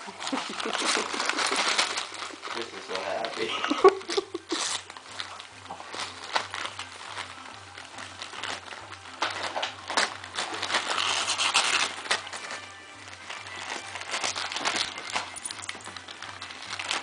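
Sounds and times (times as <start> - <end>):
background music: 0.0 - 17.0
wrapping paper crinkling and tearing: 0.0 - 17.0.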